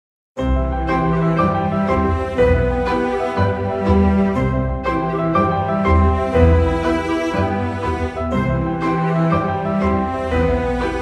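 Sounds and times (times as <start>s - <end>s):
gentle background music: 0.4s - 11.0s.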